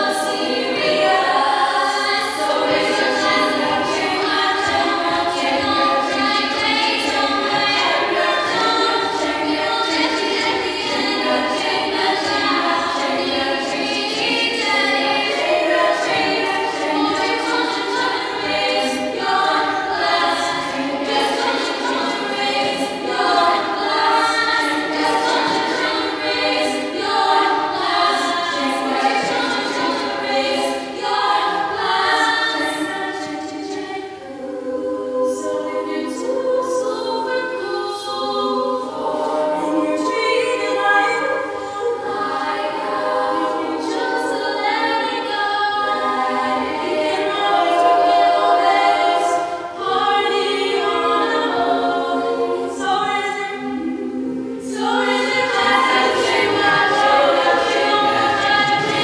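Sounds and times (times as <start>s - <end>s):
women singing a cappella: 0.0s - 59.0s.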